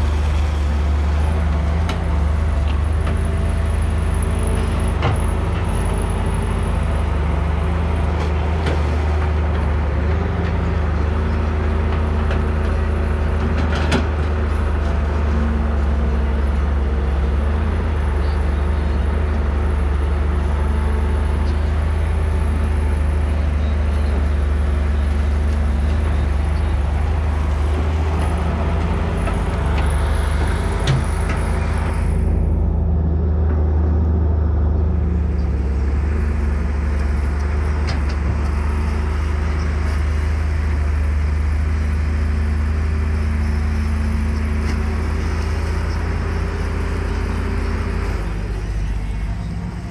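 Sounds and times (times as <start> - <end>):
excavator diesel engine under load: 0.0 - 49.9.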